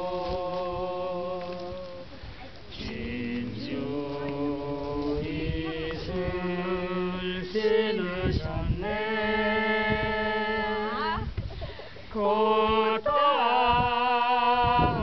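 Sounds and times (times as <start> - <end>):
women singing long notes: 0.0 - 11.4, 12.1 - 15.0.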